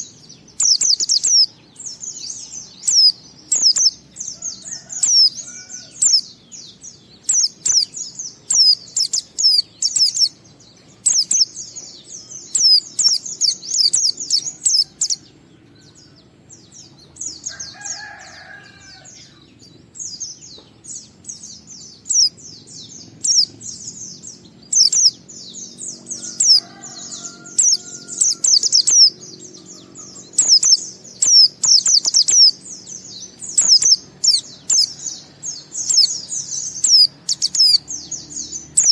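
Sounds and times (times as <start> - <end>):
bird singing high twittering song: 0.0 - 38.9.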